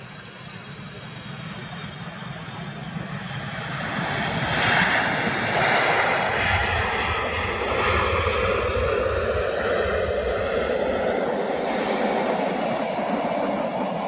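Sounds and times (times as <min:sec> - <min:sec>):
jet engines in reverse thrust: 0:00.0 - 0:14.0.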